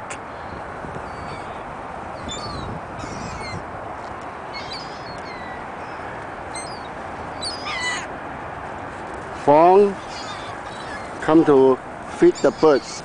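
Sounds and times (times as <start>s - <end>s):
seagulls calling: 0.0s - 3.6s, 4.4s - 8.1s, 9.6s - 13.0s.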